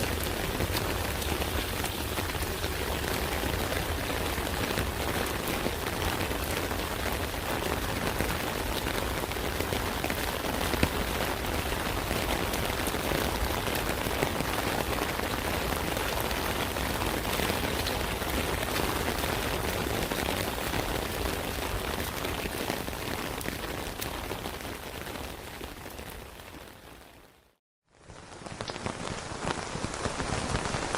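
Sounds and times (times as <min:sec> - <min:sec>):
rain on an umbrella: 0:00.0 - 0:30.9.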